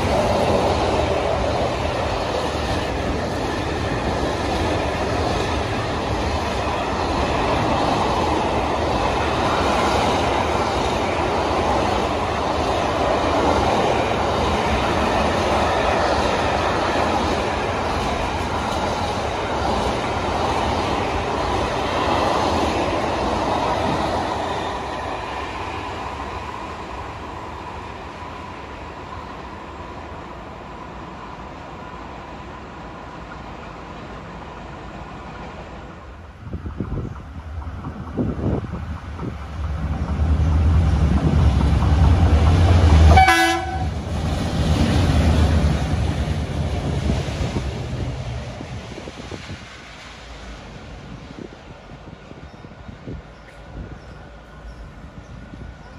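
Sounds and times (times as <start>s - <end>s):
freight train rolling past: 0.0s - 55.9s.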